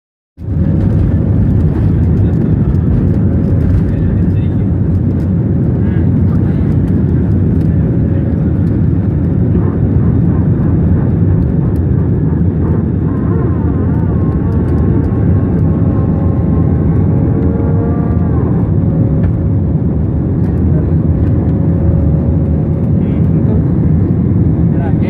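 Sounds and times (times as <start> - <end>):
jet engines rumbling: 0.4 - 25.0.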